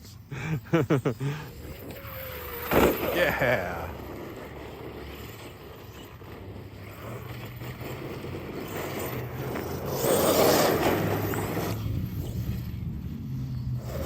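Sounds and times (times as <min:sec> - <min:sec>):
rc truck driving through mud: 0:00.1 - 0:14.0.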